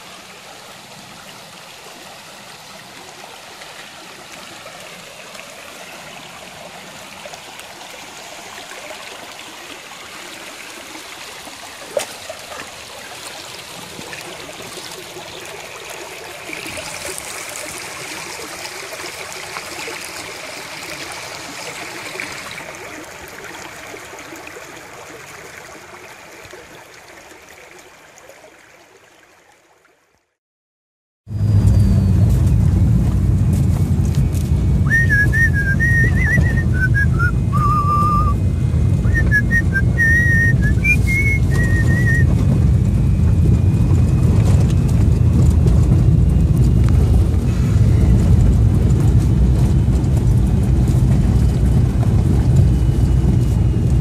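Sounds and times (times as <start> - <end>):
creek babbling over rocks: 0.0 - 30.4, 34.8 - 51.8.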